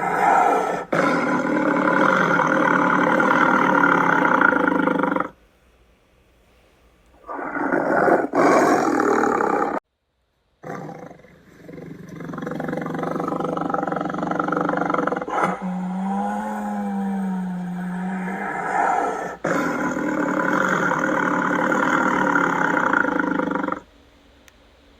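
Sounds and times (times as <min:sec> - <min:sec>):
big cat roaring: 0:00.0 - 0:05.4, 0:07.2 - 0:09.8, 0:10.6 - 0:23.8.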